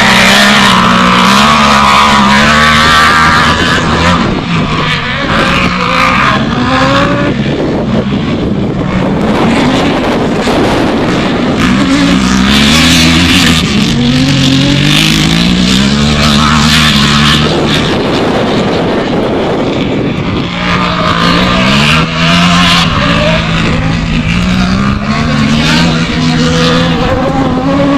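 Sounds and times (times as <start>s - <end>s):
loud rushing noise: 0.0s - 27.9s
race car engines revving: 0.0s - 27.9s.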